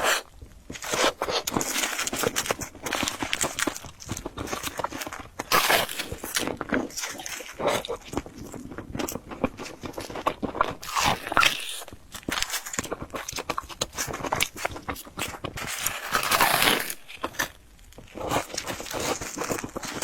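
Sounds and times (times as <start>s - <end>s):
chewing crunchy fried bread: 0.0s - 20.0s.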